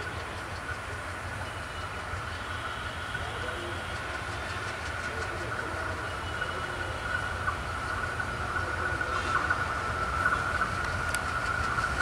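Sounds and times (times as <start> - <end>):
diesel locomotive rumble: 0.0 - 12.0
high-pitched whine: 0.0 - 12.0.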